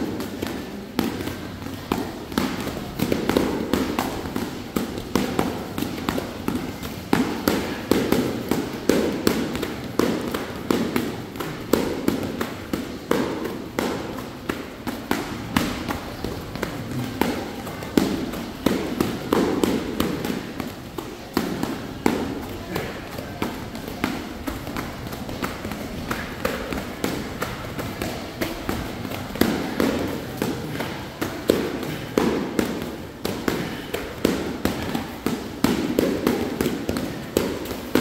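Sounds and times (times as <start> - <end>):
battle ropes slapping floor: 0.0 - 38.0.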